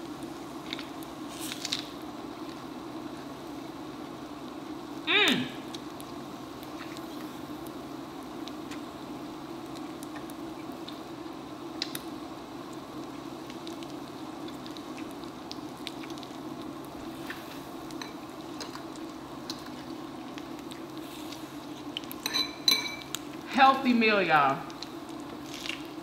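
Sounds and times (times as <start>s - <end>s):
meat sizzling on grill: 0.0s - 5.1s, 5.7s - 26.0s.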